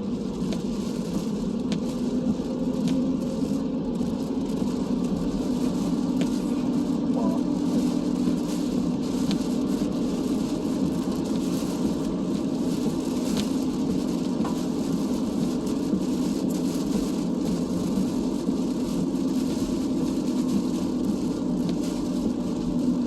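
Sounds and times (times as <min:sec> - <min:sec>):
car road noise from inside: 0:00.0 - 0:23.0.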